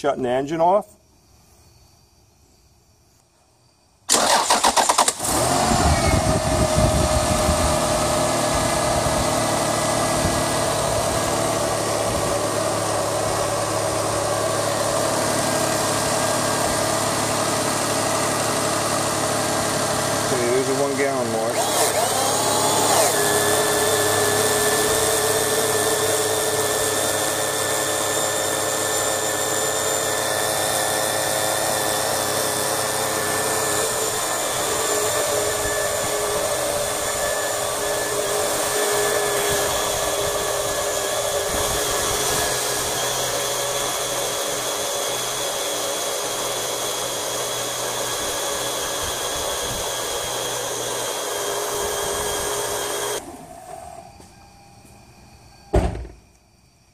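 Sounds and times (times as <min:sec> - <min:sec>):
electric pump whining: 0:04.1 - 0:54.9.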